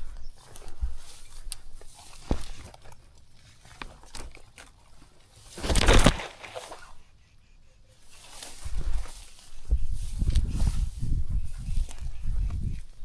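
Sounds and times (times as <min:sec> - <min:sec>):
footsteps on dry leaves and twigs: 0:00.0 - 0:07.0, 0:08.0 - 0:13.0
rustle of brushed vegetation: 0:00.0 - 0:13.0.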